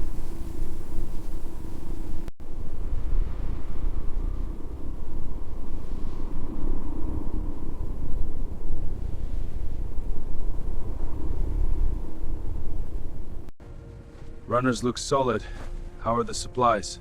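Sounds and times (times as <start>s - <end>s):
low rumbling noise: 0.0s - 16.4s.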